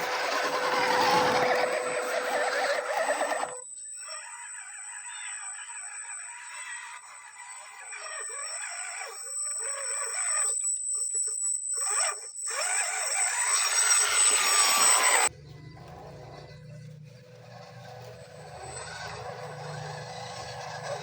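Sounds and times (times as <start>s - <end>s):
electric motor and gears whining: 0.0s - 21.0s.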